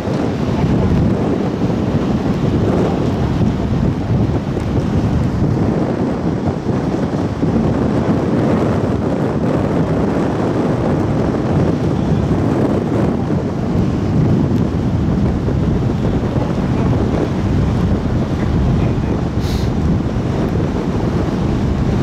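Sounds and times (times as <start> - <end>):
low rush of ship and water: 0.0 - 22.0
wind buffeting microphone: 0.0 - 22.0.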